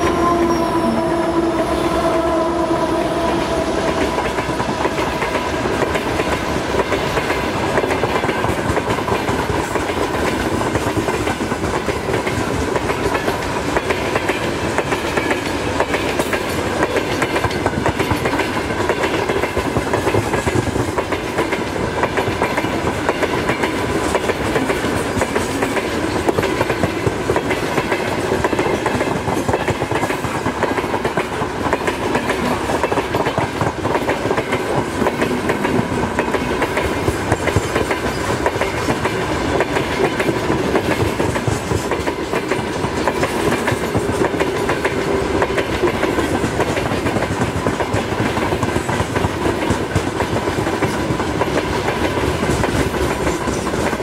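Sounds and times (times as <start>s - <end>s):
faint ringing of wheels on rails: 0.0s - 54.0s
freight train rumbling past: 0.0s - 54.0s
wheels clacking over rail joints: 0.0s - 54.0s.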